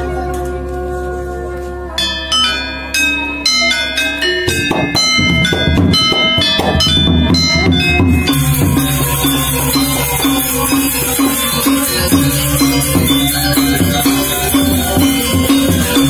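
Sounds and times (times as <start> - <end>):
bright metallic wash: 2.0 - 16.0
gamelan ensemble with drums: 2.0 - 16.0
metallophones striking notes: 2.0 - 16.0.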